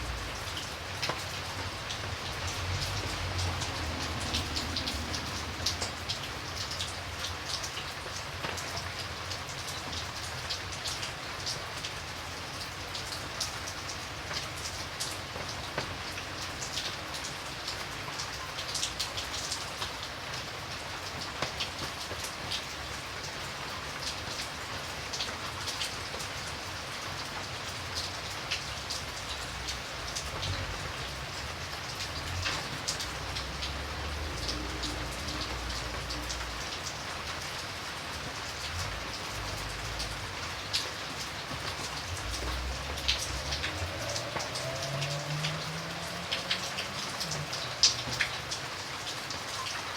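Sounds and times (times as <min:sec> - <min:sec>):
raindrops ticking on a surface: 0:00.0 - 0:49.9
steady rain falling: 0:00.0 - 0:49.9.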